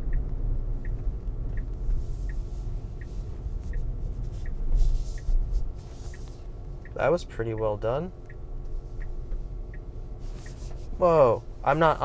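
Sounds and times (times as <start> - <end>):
car road rumble: 0.0 - 12.0
turn signal ticking: 0.0 - 12.0.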